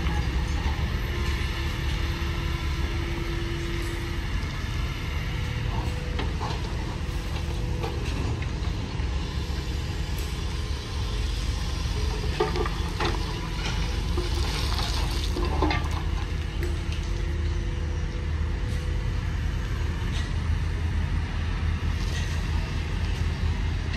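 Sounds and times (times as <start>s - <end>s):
diesel engines rumbling: 0.0s - 23.9s.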